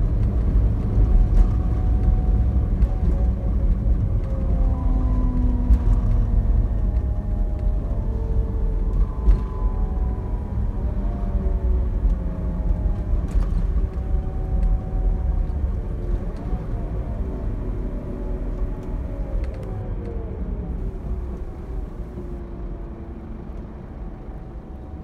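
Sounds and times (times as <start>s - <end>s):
coach engine and road rumble: 0.0s - 25.0s.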